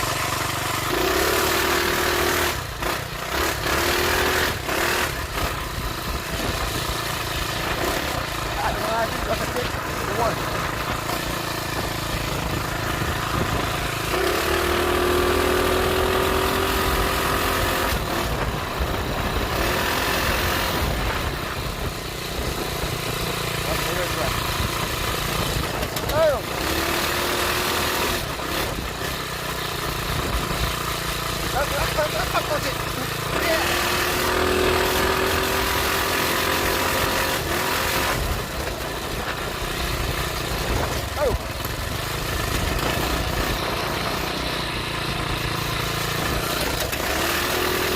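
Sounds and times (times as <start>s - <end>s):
minibike engine running: 0.0s - 47.9s.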